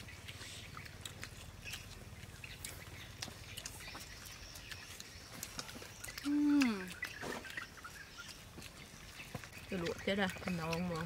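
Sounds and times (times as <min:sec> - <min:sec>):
people chewing and lip-smacking: 0:00.0 - 0:11.0.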